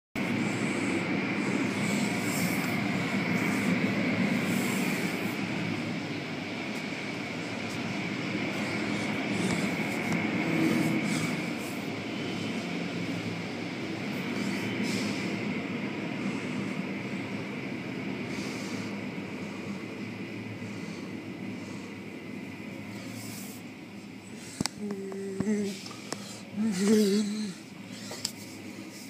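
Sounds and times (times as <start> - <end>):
car wash machinery drone and whine: 0.2 - 29.0.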